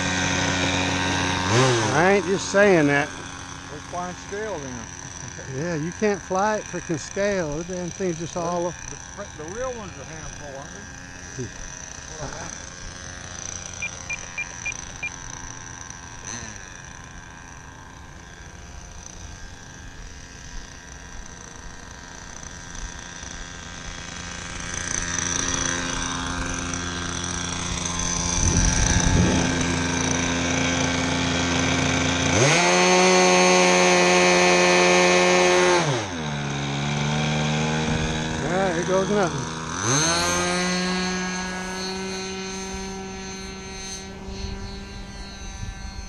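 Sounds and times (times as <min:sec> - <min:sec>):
model airplane engine revving: 0:00.0 - 0:46.0.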